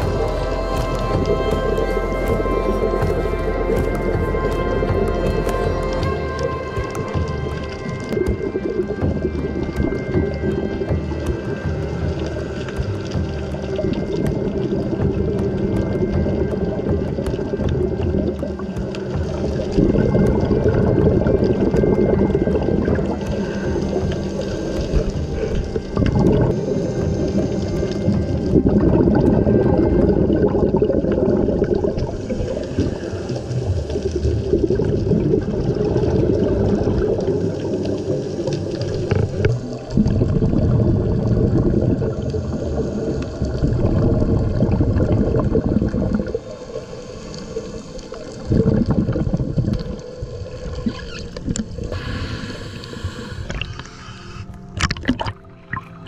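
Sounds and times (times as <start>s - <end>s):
underwater bubbles gurgling: 0.0s - 56.0s
water splashing at surface: 0.0s - 56.0s.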